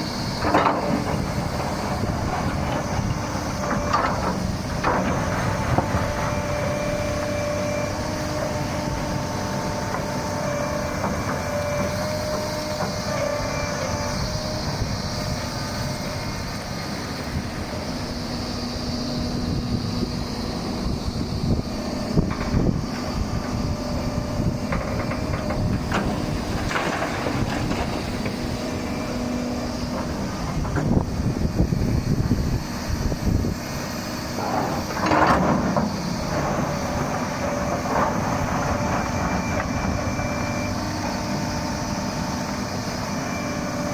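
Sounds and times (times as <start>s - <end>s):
excavator engine and hydraulics: 0.0s - 43.9s.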